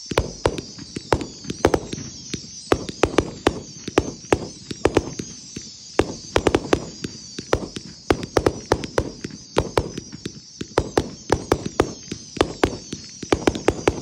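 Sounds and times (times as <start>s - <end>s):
fireworks firing: 0.0s - 14.0s.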